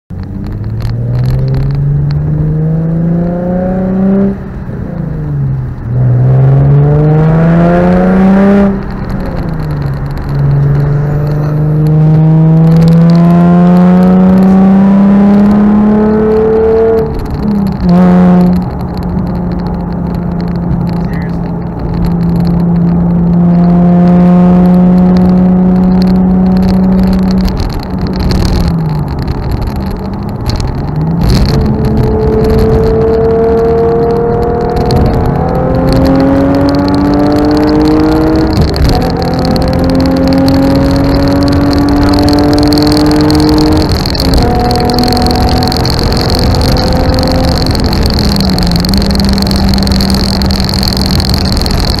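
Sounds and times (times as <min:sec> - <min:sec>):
car engine revving under full throttle: 0:00.1 - 0:52.0.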